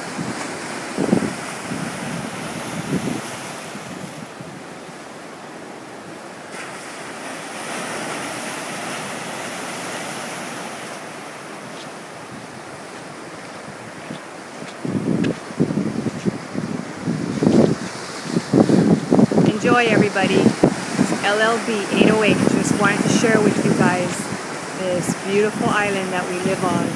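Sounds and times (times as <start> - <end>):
wind buffeting microphone: 0.0 - 5.0, 7.6 - 26.9
ocean surf on rocks: 0.0 - 26.9.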